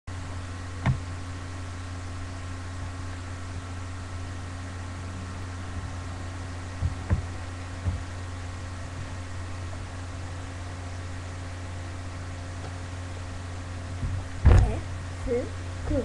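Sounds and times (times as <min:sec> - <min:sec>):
low hum with hiss: 0:00.1 - 0:16.0.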